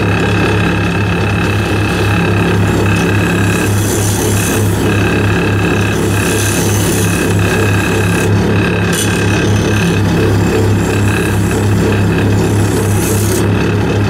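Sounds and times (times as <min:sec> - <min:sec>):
wood lathe motor hum: 0:00.0 - 0:14.0.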